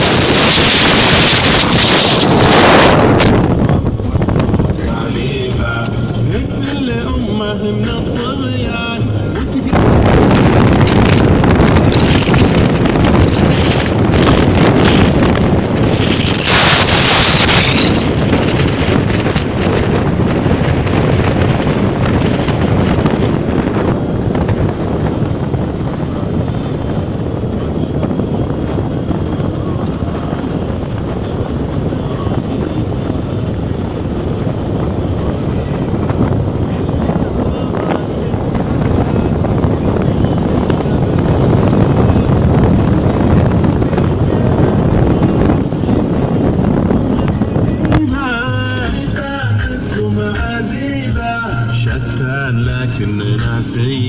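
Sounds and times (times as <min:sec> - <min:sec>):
vehicle rumbling on sand track: 0:00.0 - 0:54.0
wind buffeting microphone: 0:00.0 - 0:54.0.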